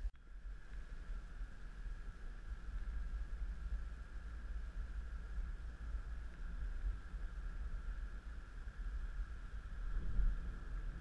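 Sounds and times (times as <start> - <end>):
car cabin road and engine rumble: 0.0 - 11.0
faint high hum: 0.0 - 11.0.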